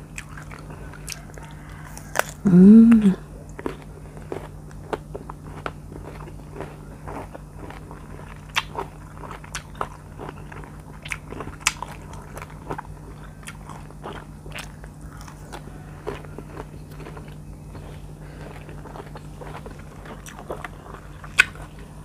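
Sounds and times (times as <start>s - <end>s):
biting and chewing mango: 0.0s - 22.0s.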